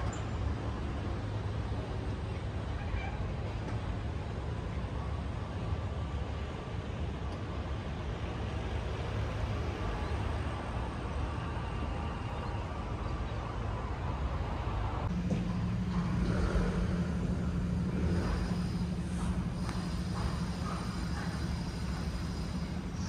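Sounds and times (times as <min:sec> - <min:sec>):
engine and traffic rumble: 0:00.0 - 0:23.0.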